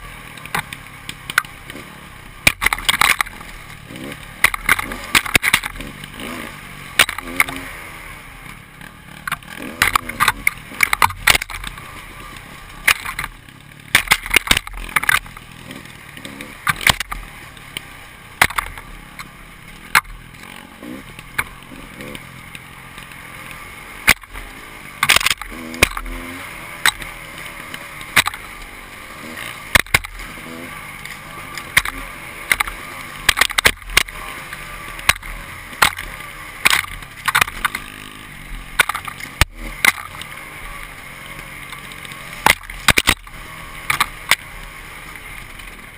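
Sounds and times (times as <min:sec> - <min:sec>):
motorcycle engine: 0:00.0 - 0:45.9
motorcycle knocks and rattles: 0:00.0 - 0:45.9.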